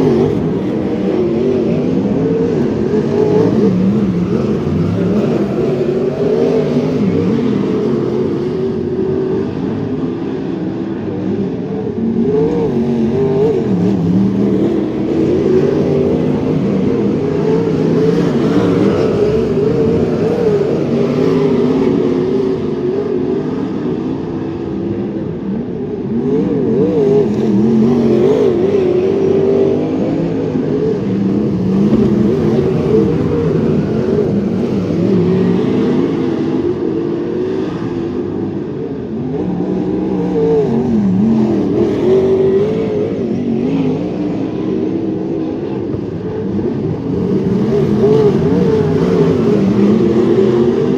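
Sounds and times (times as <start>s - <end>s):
race car engines circling track: 0.0s - 50.9s.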